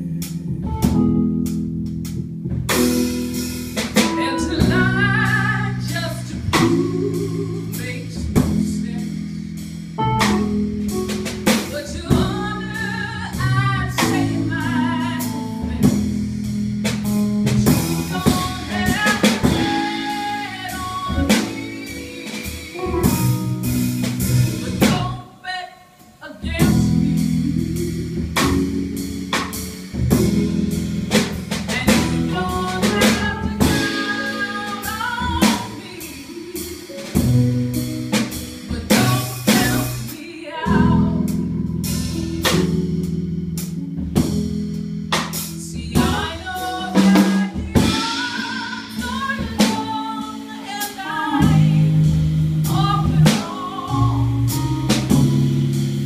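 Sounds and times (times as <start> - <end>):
woman singing jazz: 0.0 - 1.6, 2.7 - 56.0
keyboard: 0.0 - 25.2, 26.4 - 56.0
upright bass: 0.0 - 25.2, 26.4 - 56.0
drum kit: 0.0 - 25.4, 26.0 - 56.0.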